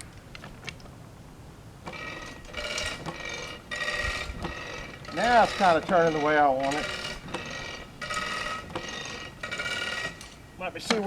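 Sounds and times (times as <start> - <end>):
crank squealing metallic whine: 1.8 - 11.0.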